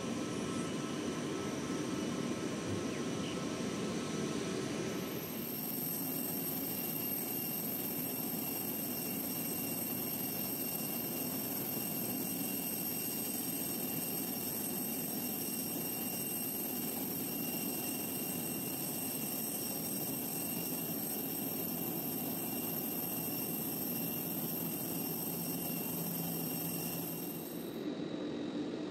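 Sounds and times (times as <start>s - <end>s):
jet engines rumbling and whining: 0.0s - 28.9s.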